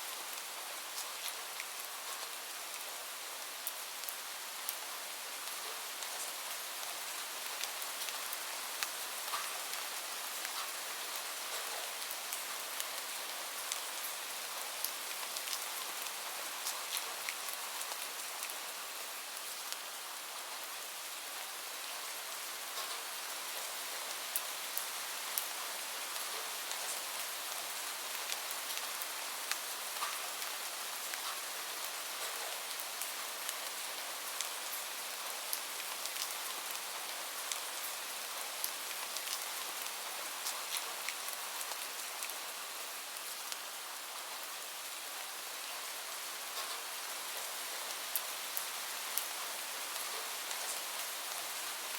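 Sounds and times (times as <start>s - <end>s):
gentle rain hiss: 0.0s - 51.9s.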